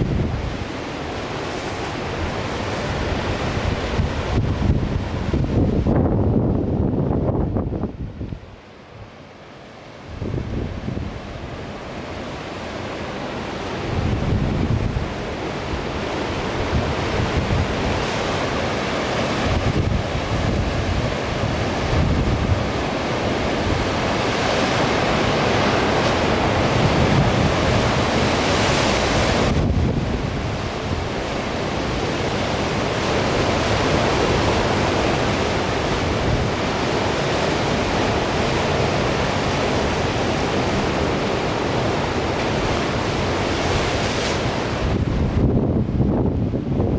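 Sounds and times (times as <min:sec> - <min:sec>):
heavy surf breaking: 0:00.0 - 0:08.6, 0:09.7 - 0:46.9
wind buffeting microphone: 0:00.0 - 0:08.6, 0:10.1 - 0:11.8, 0:13.8 - 0:46.9.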